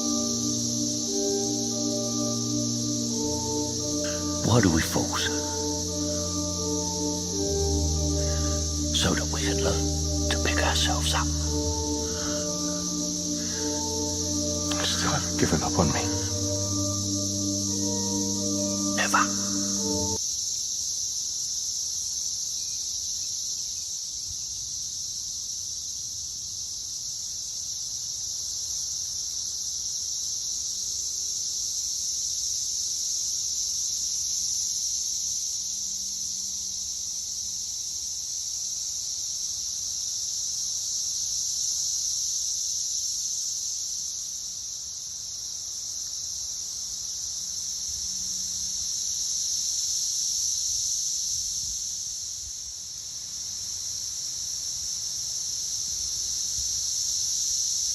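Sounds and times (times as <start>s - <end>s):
cicadas droning: 0.0s - 57.9s.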